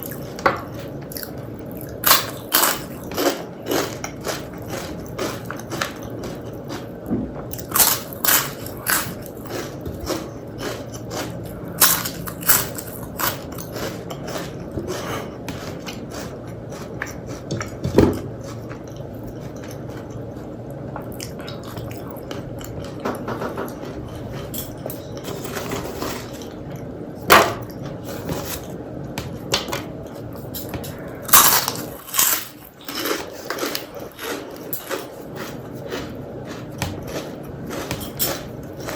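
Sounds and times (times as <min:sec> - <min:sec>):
close-miked chewing: 0:00.0 - 0:22.9, 0:30.0 - 0:38.9.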